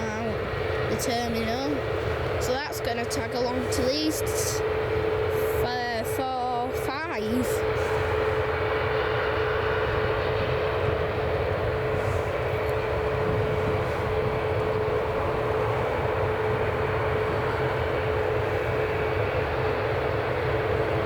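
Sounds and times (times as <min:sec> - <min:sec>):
jet engines whining and rumbling: 0:00.0 - 0:21.0.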